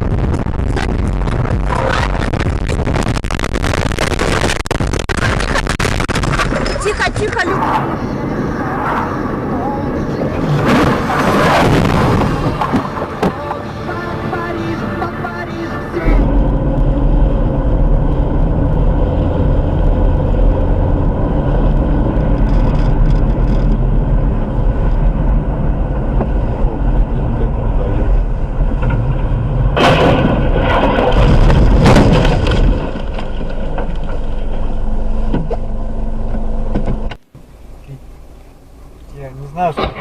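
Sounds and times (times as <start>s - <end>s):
road and engine rumble: 0.0s - 40.0s.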